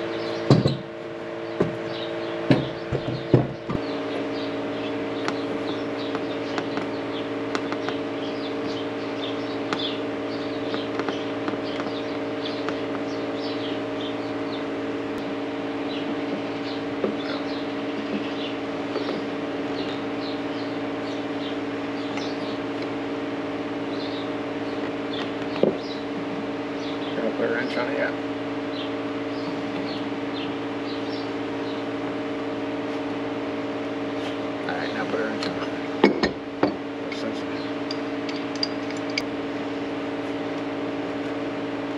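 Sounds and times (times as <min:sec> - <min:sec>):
small birds chirping: 0:00.0 - 0:40.7
steady mechanical hum: 0:00.0 - 0:41.9.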